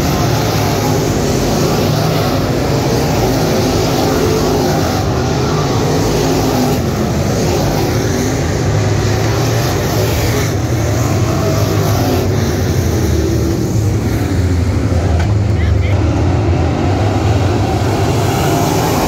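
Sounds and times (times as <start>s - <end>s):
race car engines roaring: 0.0s - 19.0s.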